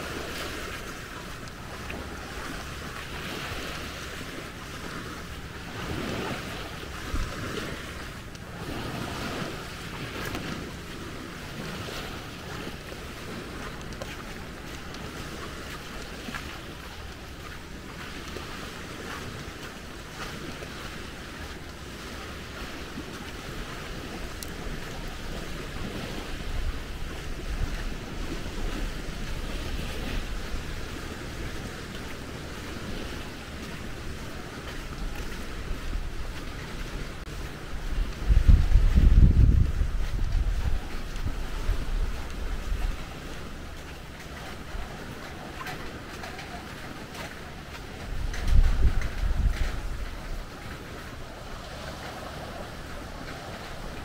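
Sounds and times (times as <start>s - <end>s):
sea waves washing on beach: 0.0s - 54.0s
wind buffeting microphone: 0.0s - 54.0s.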